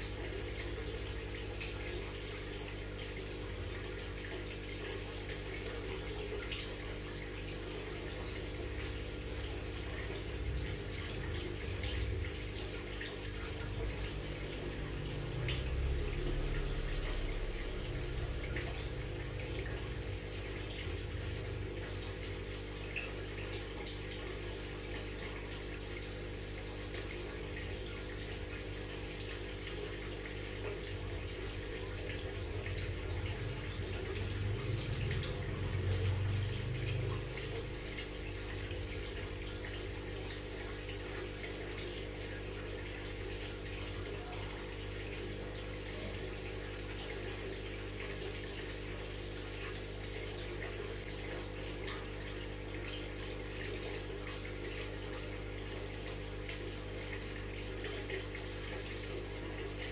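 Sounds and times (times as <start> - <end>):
filter water splashing: 0.0 - 59.9
pump humming: 0.0 - 59.9.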